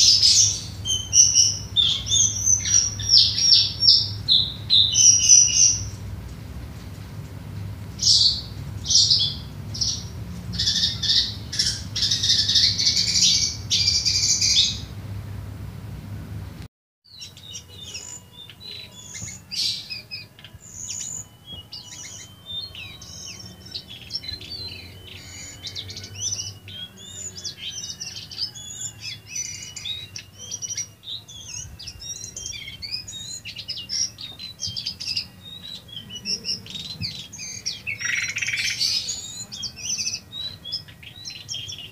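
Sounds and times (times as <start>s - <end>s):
bird singing: 0.0s - 15.2s, 17.1s - 41.9s.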